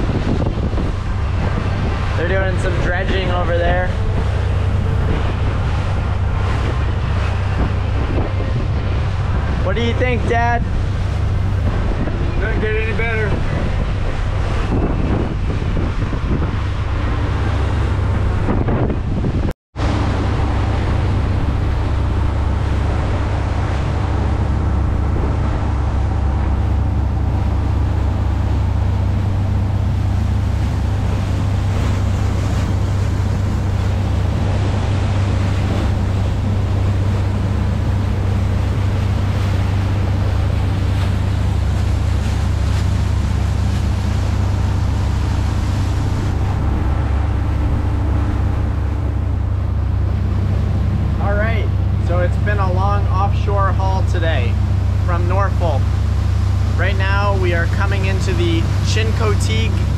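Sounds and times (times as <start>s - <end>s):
boat engine drone: 0.0s - 59.9s
wind and water rushing: 0.0s - 59.9s.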